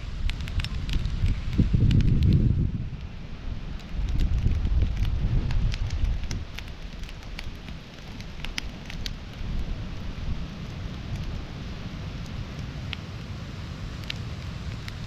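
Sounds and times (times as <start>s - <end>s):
campfire crackling: 0.0s - 15.0s
wind rumble on microphone: 0.0s - 15.0s.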